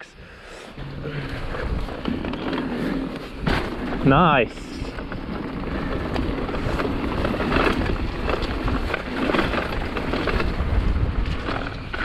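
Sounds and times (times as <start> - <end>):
wind rumble on microphone: 0.7 - 12.0
bike knocking and rattling: 0.8 - 12.0
bike tyres rolling over stones: 0.8 - 12.0.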